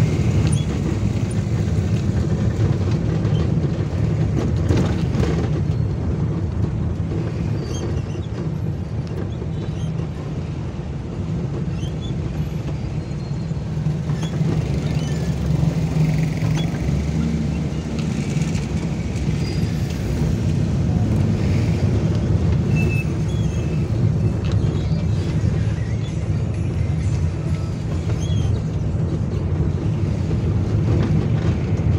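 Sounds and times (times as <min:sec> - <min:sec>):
car engine and tyres rumbling: 0:00.0 - 0:31.9.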